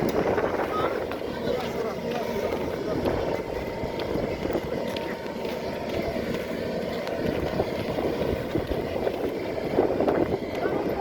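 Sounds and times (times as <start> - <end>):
vehicles driving on road: 0.0 - 11.0.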